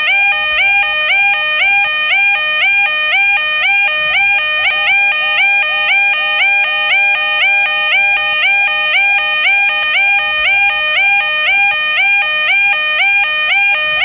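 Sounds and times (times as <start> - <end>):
level crossing alarm: 0.0 - 14.0.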